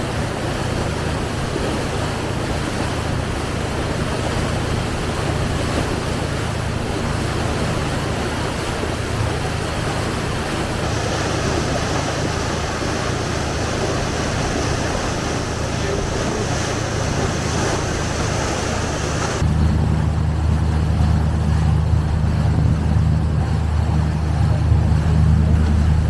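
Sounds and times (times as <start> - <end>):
boat engine humming: 0.0 - 26.0
water rushing: 0.0 - 26.0
wind: 0.0 - 26.0.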